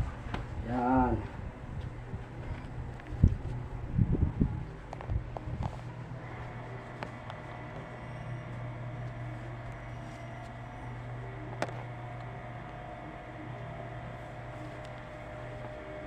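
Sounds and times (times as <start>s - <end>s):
faint high whine: 0.0s - 16.0s
low mechanical hum: 0.0s - 16.0s.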